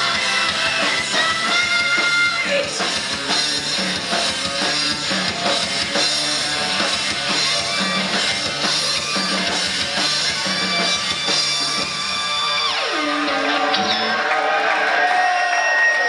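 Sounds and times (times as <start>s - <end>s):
drum kit beat: 0.0s - 14.3s
distorted electric guitars: 0.0s - 16.0s.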